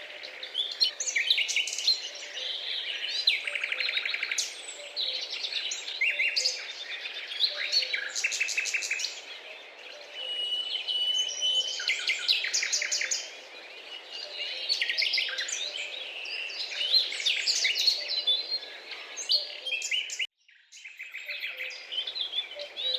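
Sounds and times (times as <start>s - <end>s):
birds chirping and trilling: 0.0s - 22.9s.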